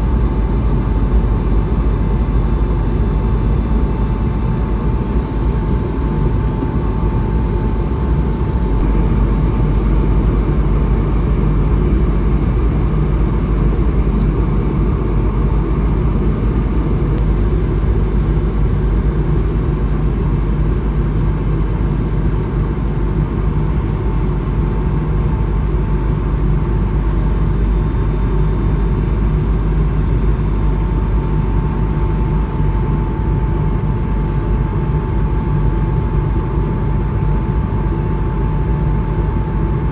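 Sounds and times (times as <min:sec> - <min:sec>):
airliner cabin engine and air noise: 0:00.0 - 0:39.9
thin steady whine: 0:00.0 - 0:39.9.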